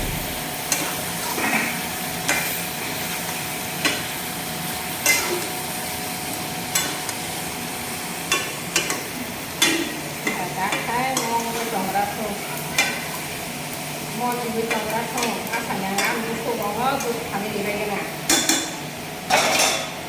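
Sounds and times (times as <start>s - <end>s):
curry sizzling in a pan: 0.0s - 20.0s.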